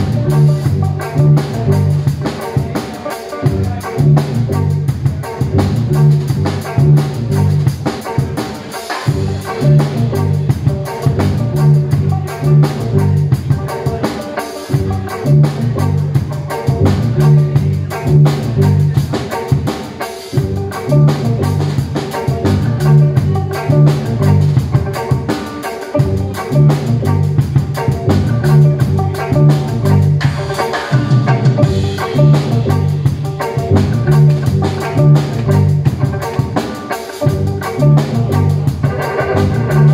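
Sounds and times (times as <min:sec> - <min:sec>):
amplified string instrument riff: 0:00.0 - 0:39.9
fast busy drumming: 0:00.0 - 0:39.9.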